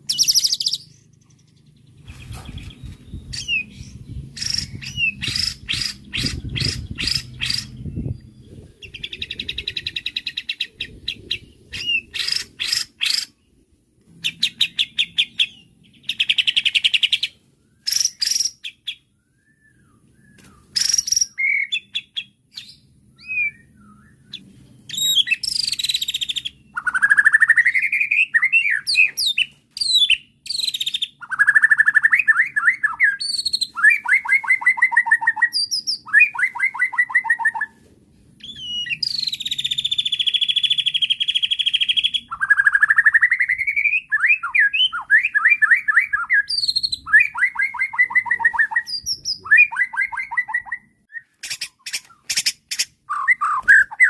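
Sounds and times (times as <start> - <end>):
songbird singing varied song: 0.0 - 37.8, 38.4 - 54.0.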